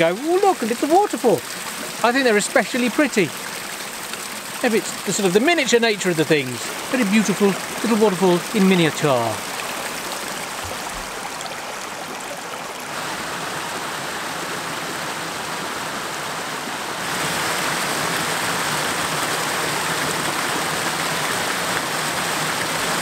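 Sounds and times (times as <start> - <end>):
river water rushing over cascades: 0.0 - 23.0.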